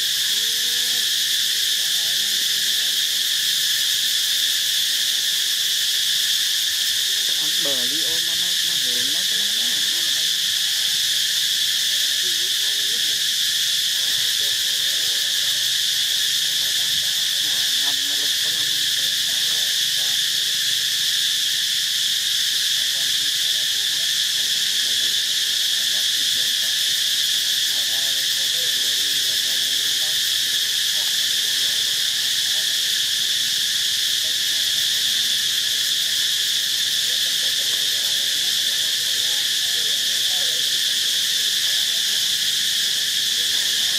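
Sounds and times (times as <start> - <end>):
forest insects droning: 0.0 - 43.9.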